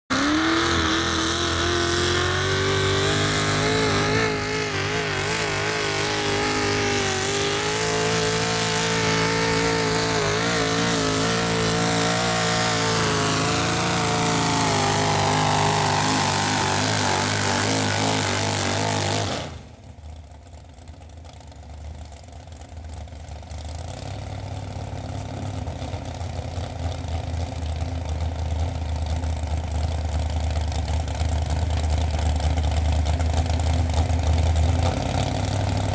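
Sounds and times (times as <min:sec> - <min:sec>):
supercharged engine at full throttle: 0:00.1 - 0:19.9, 0:23.6 - 0:35.9.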